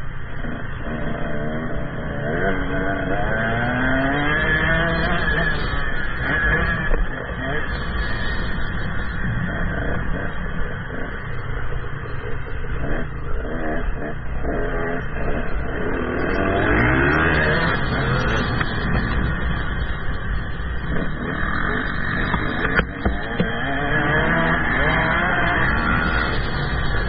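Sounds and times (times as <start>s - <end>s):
motocross bike engine revving: 0.3s - 27.0s.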